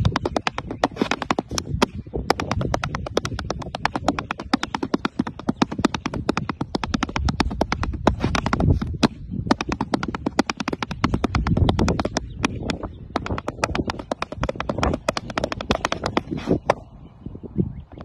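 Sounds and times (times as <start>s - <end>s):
dull thuds of steps: 0.0s - 16.8s
tap shoes clicking on a board: 0.0s - 16.8s.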